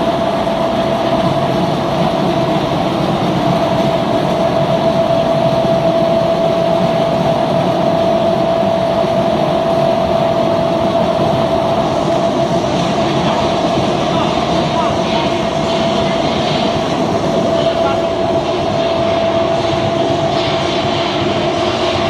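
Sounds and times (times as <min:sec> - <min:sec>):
machine rumbling: 0:00.0 - 0:22.0
steady machine whine: 0:00.0 - 0:22.0.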